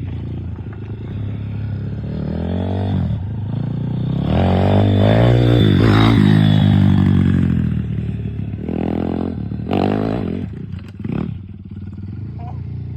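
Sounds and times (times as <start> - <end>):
dirt bike engine revving: 0.3 - 12.2.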